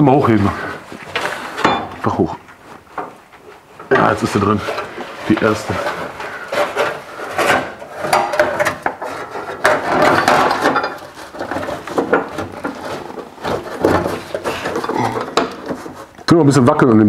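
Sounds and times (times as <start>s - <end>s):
metal clunks and scraping: 0.0s - 16.4s.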